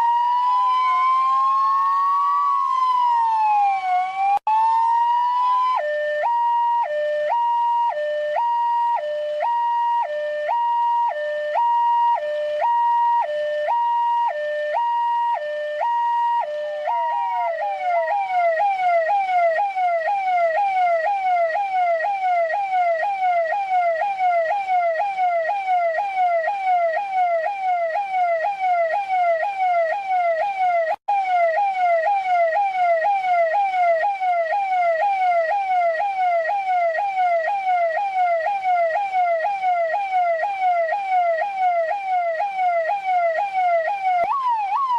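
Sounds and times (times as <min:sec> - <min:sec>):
electronic police siren: 0:00.0 - 0:44.9.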